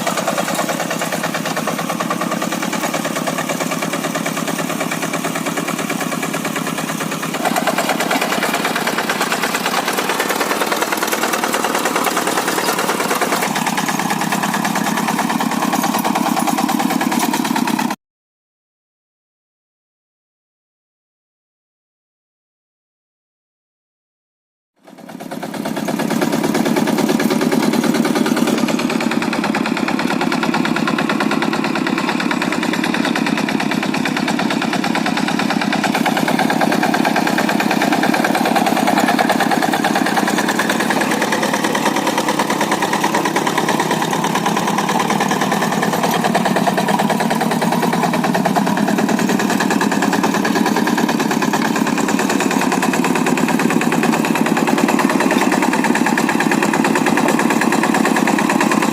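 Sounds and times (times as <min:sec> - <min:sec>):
diesel engine chugging: 0:00.0 - 0:18.0, 0:24.9 - 0:58.9.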